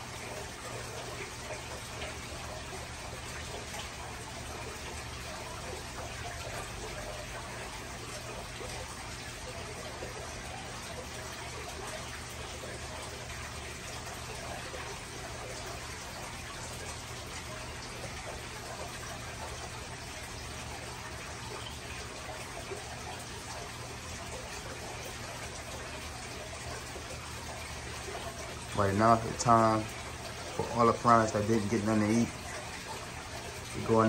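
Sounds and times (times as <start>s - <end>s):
aquarium water trickling: 0.0s - 34.0s.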